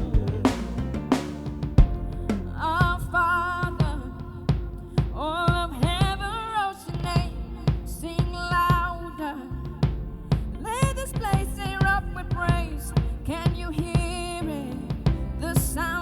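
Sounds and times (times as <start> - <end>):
bass: 0.0 - 16.0
drum kit beats: 0.0 - 16.0
live worship band: 0.0 - 16.0.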